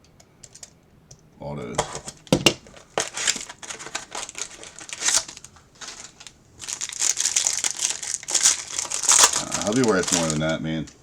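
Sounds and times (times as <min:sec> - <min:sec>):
card pack wrappers crinkling: 0:01.8 - 0:11.0.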